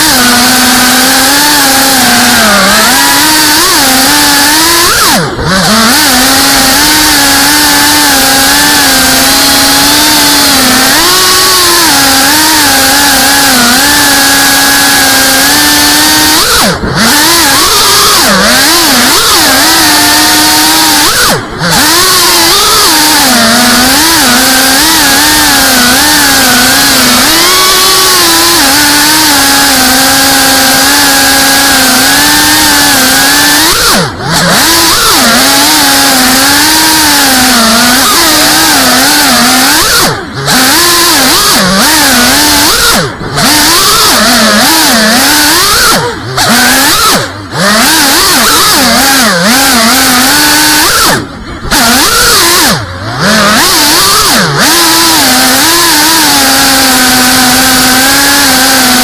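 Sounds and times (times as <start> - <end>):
quadcopter motors whining: 0.0 - 59.0.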